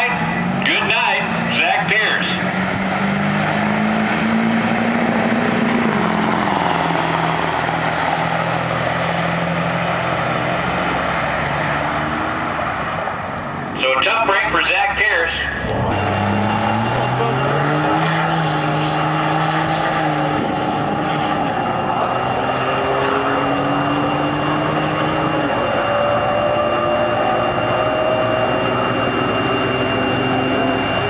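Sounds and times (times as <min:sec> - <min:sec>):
diesel truck accelerating: 0:00.0 - 0:31.0.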